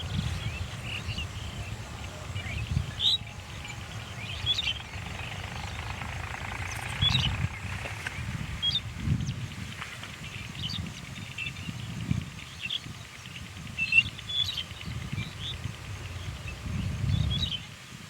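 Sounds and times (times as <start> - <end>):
low uneven rumble: 0.0 - 17.6
birds chirping: 0.0 - 17.8.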